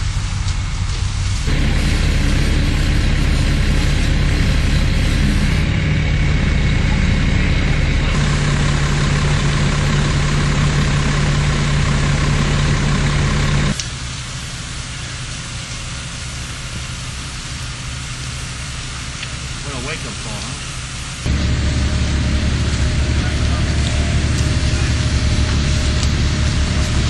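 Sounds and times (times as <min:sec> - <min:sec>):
fire engine humming: 0:00.0 - 0:27.0
steady rushing noise: 0:00.0 - 0:27.0.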